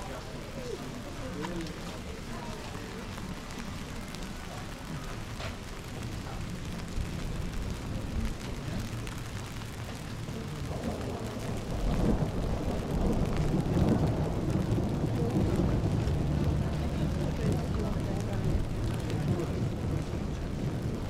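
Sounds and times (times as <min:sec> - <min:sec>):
light rain on cobbles: 0:00.0 - 0:21.0
low rumble: 0:01.7 - 0:21.0.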